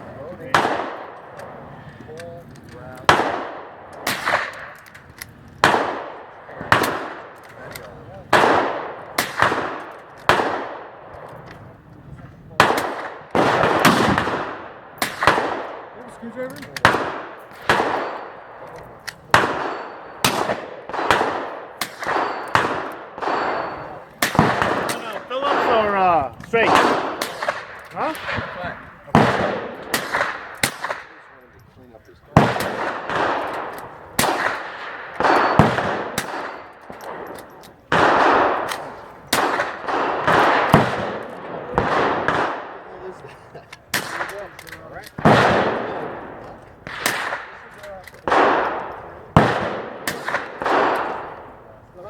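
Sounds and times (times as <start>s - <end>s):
rifle shots echoing: 0.0s - 31.6s, 32.2s - 43.2s, 43.9s - 52.0s.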